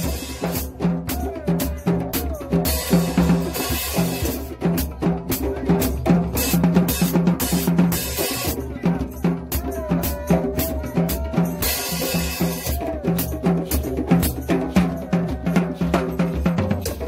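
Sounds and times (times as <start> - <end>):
djembe hand drums: 0.0 - 17.0.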